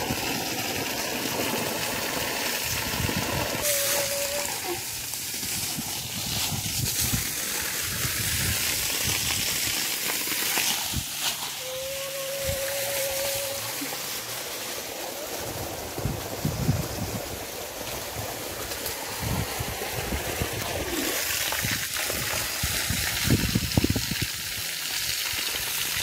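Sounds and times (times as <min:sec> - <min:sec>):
water running from a hose: 0:00.0 - 0:26.0.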